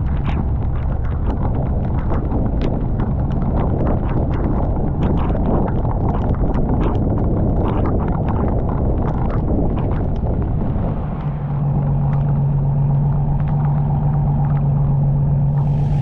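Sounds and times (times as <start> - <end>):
engine hum: 0.0 - 16.0
vehicle rumbling over rough ground: 0.0 - 16.0.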